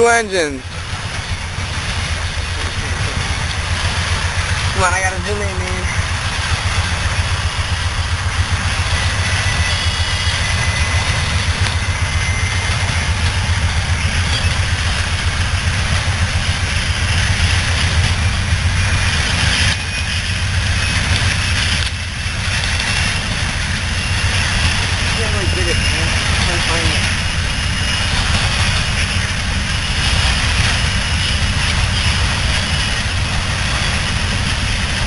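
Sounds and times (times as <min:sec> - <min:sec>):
train rumbling on rails: 0:00.0 - 0:35.0.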